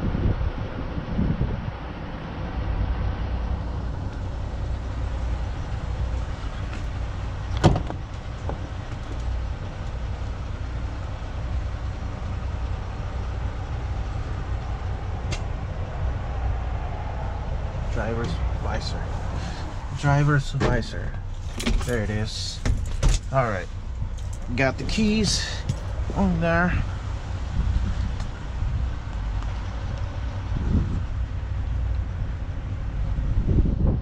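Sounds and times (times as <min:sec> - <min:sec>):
vehicle engine idling: 0:00.1 - 0:34.0.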